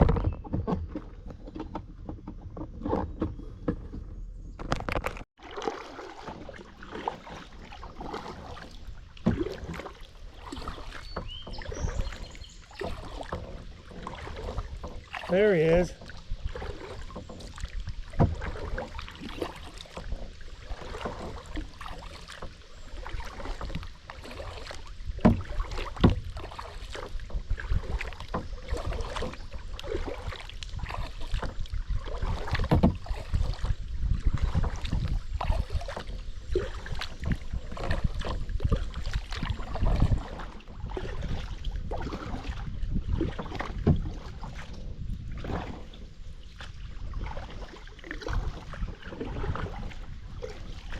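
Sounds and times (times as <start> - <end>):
paddle knocking against hull: 0.0 - 50.9
paddle splashing in water: 0.0 - 50.9.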